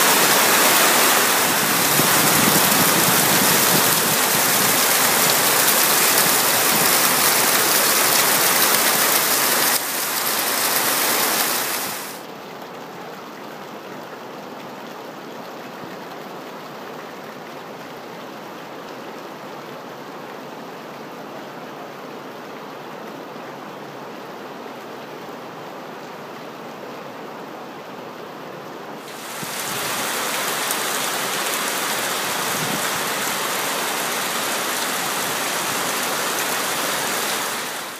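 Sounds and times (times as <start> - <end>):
heavy rain on water and roofs: 0.0 - 37.9.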